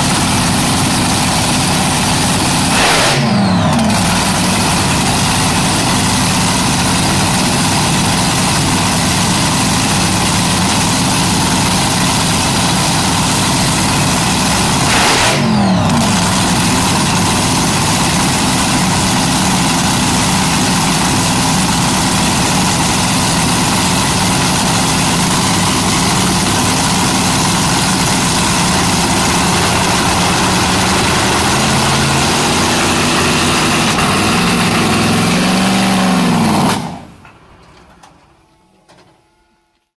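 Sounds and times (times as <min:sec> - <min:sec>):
dragster engine idling and revving: 0:00.0 - 0:38.6.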